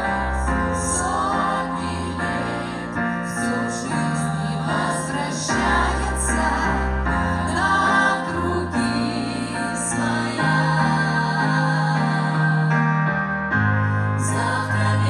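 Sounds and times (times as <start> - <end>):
song with sustained singing: 0.0 - 15.0.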